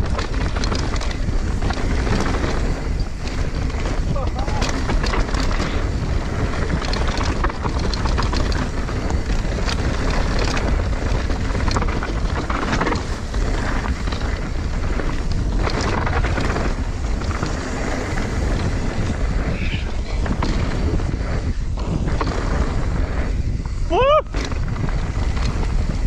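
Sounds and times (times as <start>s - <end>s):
bike rattling and knocking: 0.0s - 26.0s
tyres rumbling on dirt: 0.0s - 26.0s
wind on microphone: 0.0s - 26.0s.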